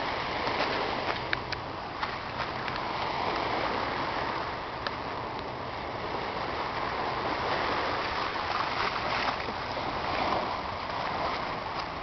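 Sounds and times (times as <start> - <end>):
seawater washing around rocks: 0.0 - 12.0.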